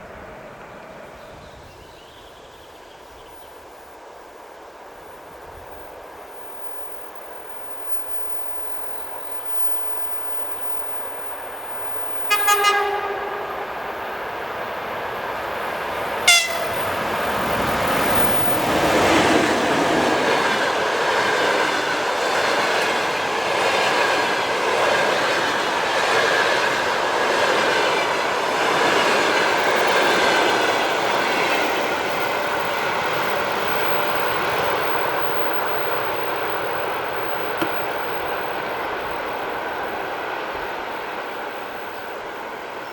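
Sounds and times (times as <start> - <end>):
train passing on rails: 0.0 - 42.9.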